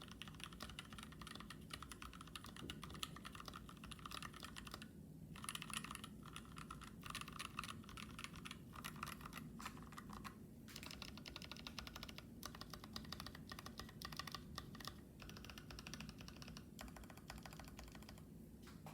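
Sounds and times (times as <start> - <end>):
typing on mechanical keyboard: 0.0 - 18.3.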